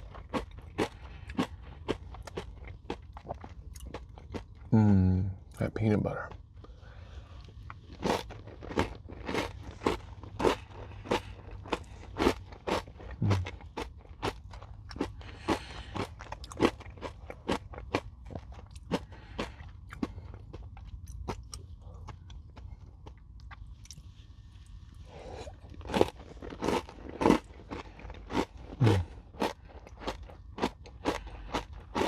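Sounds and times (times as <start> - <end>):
person chewing crunchy granola bar: 0.0 - 4.7, 6.2 - 32.0.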